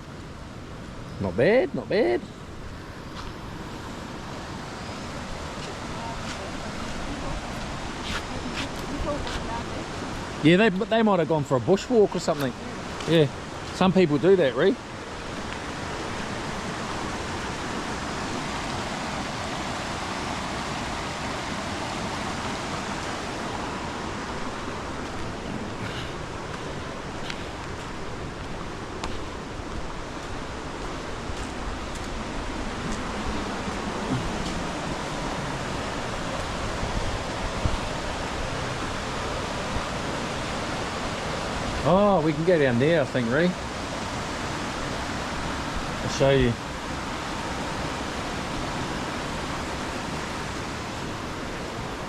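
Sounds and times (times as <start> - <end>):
river rushing: 0.0 - 52.0.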